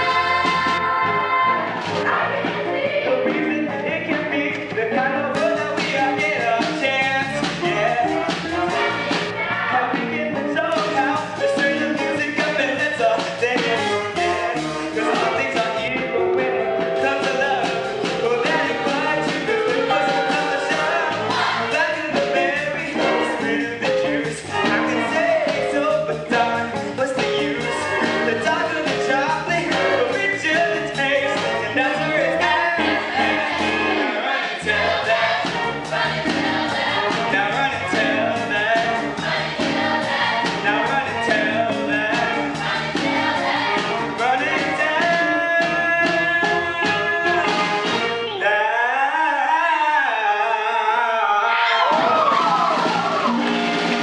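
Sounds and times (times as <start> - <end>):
chorus singing: 0.0 - 54.0
pit band playing: 0.0 - 54.0.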